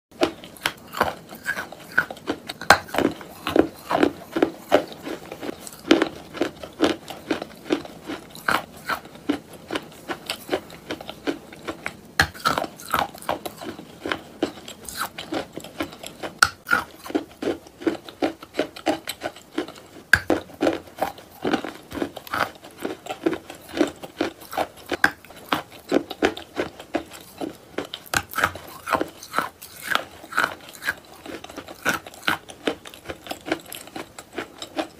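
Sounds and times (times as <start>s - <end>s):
biting and chewing clay crunches: 0.2s - 34.9s.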